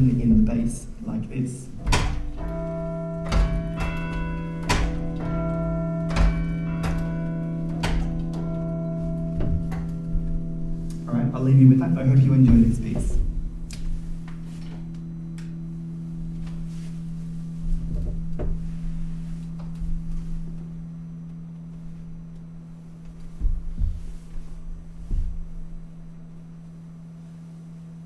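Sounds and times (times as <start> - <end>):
large bell ringing hum: 0.0 - 28.0.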